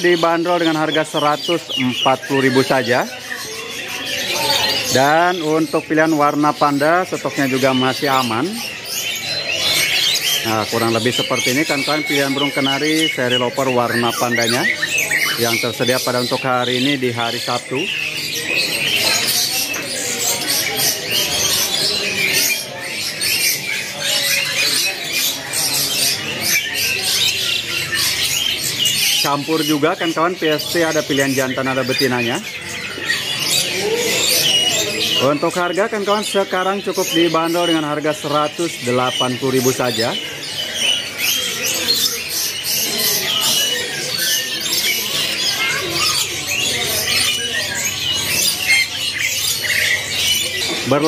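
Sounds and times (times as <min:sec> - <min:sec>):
birds chirping and twittering: 0:00.0 - 0:51.0.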